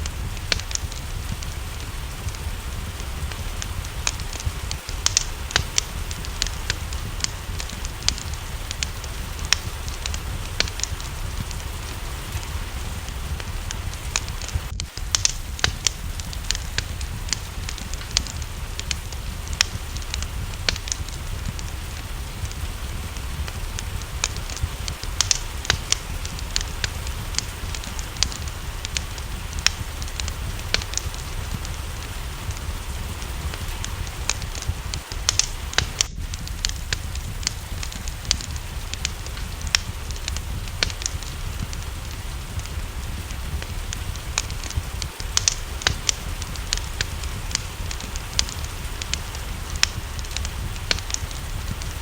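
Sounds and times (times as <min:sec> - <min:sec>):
low rumble: 0:00.0 - 0:52.0
rain: 0:00.0 - 0:52.0
wood fire crackling and popping: 0:00.0 - 0:52.0.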